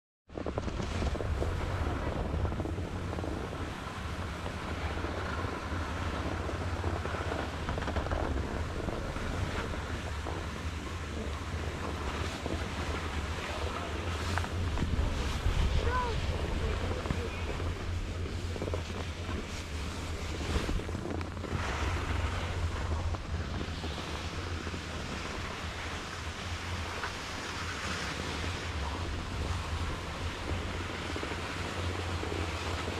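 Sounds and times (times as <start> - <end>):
wind buffeting microphone: 0.3 - 32.9
skis sliding on snow: 0.4 - 32.9.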